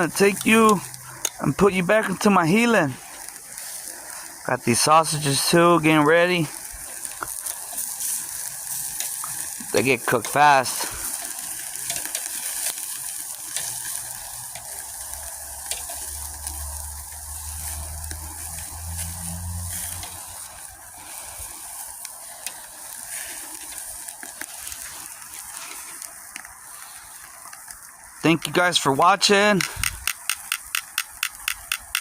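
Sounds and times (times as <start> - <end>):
meat sizzling on a grill: 0.0 - 32.0.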